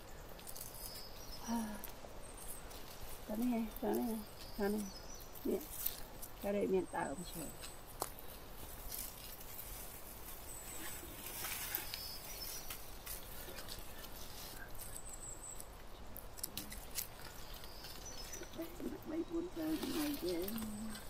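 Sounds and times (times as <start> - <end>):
rustling through brush: 0.0 - 21.0.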